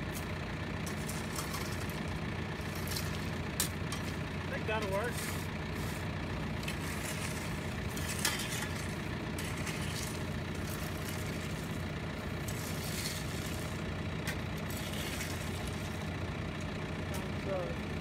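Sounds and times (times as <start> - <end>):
rake and shovels scraping gravel: 0.0 - 16.4
vehicle engine idling: 0.0 - 18.0.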